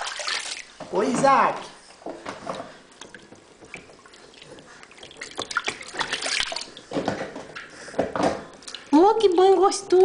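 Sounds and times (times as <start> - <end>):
bathwater sloshing and splashing: 0.0 - 10.0.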